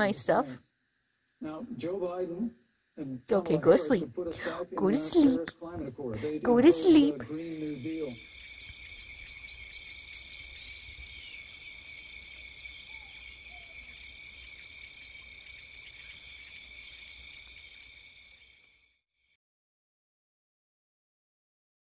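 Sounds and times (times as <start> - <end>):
crickets trilling: 0.0 - 19.4.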